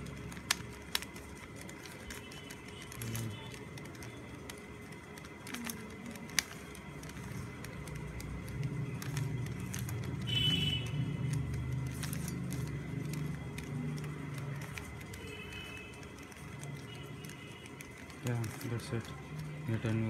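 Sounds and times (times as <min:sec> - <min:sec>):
puzzle cube layers clicking: 0:00.0 - 0:20.0.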